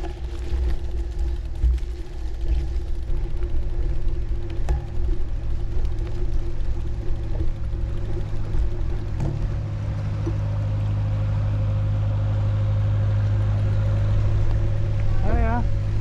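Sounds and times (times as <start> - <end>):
diesel boat engine humming: 0.0 - 16.0.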